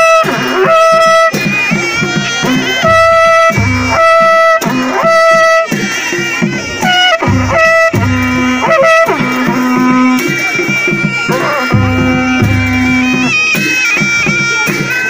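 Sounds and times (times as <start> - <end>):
drum beats: 0.0 - 15.0
shrill reed instrument tune: 0.0 - 15.0.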